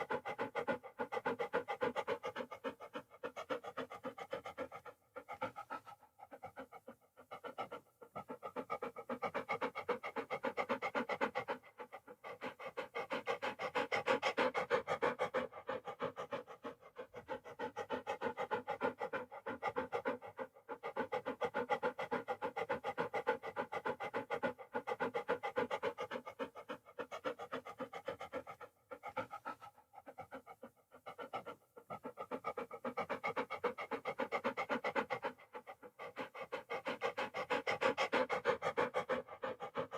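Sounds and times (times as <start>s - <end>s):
dog panting: 0.0s - 39.9s.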